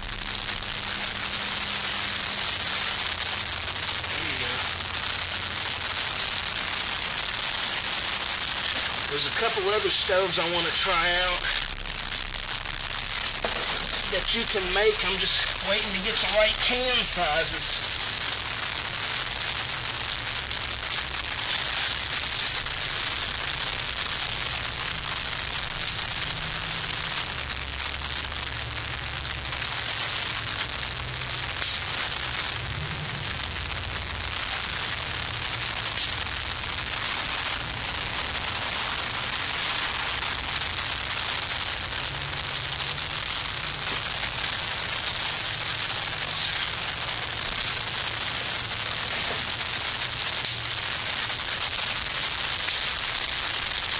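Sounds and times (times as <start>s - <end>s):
wood fire hissing and crackling: 0.0s - 53.9s.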